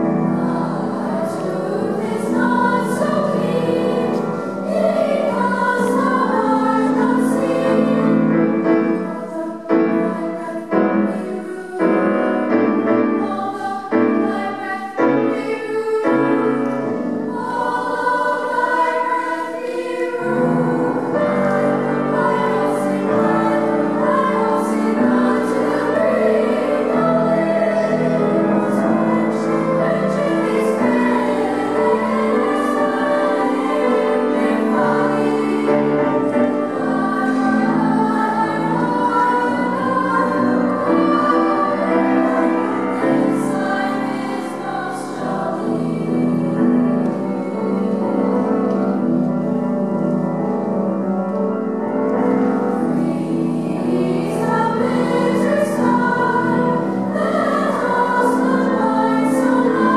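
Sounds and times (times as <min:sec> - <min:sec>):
children's choir singing: 0:00.0 - 0:59.9
piano accompaniment: 0:00.0 - 0:59.9.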